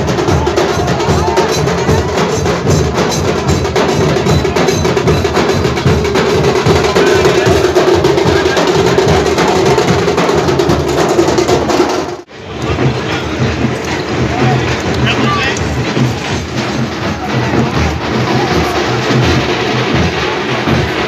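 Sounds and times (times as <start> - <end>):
drums beating fast rhythm: 0.0 - 21.0.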